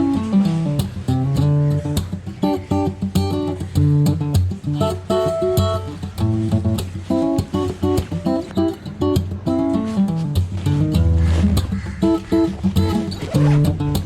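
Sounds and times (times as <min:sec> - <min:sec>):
strummed acoustic guitar music: 0:00.0 - 0:14.0.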